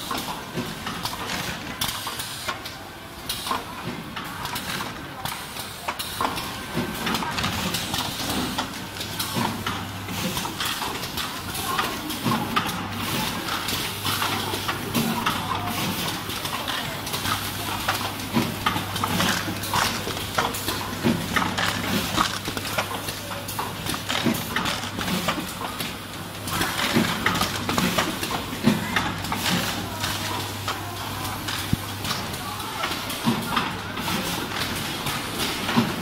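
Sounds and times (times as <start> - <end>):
conveyor humming: 0.0 - 36.0.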